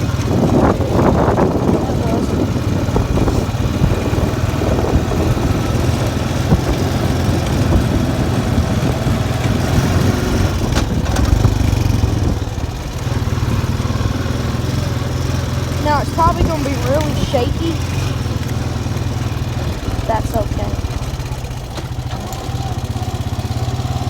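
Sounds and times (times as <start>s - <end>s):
off-road vehicle engine running: 0.0s - 24.0s.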